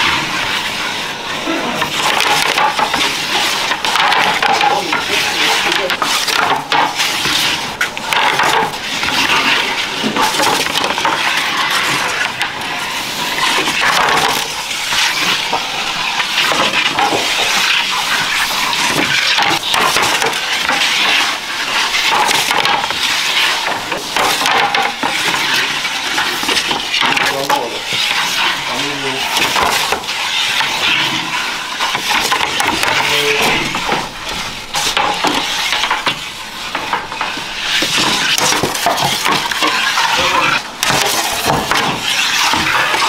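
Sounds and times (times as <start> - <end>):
metal trays clinking and scraping: 1.4 - 43.0.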